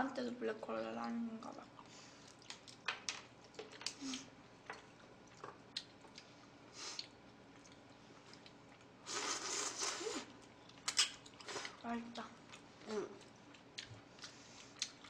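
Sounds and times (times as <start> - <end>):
soft chewing: 0.9 - 15.0.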